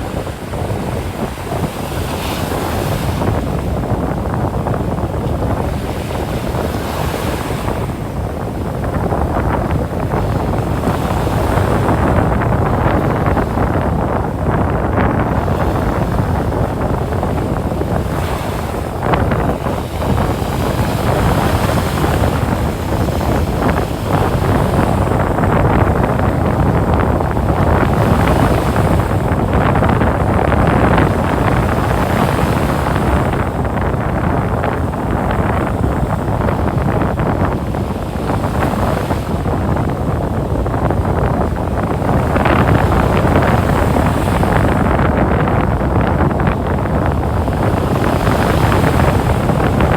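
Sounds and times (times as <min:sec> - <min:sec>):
surf breaking on beach: 0:00.0 - 0:49.9
wind rumbling on microphone: 0:00.0 - 0:49.9.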